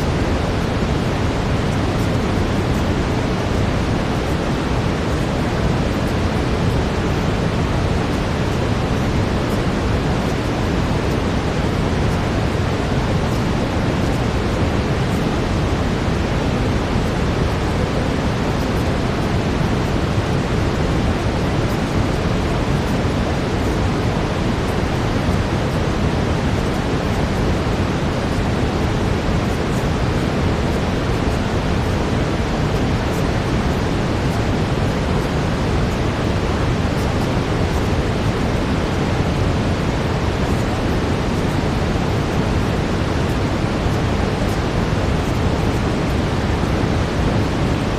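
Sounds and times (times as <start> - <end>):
brown noise hiss: 0.0 - 47.9.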